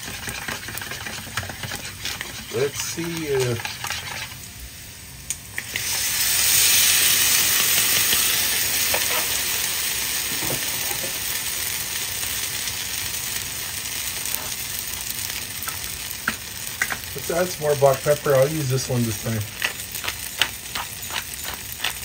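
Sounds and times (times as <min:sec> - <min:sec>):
batter sizzling in frying pan: 0:00.0 - 0:22.0.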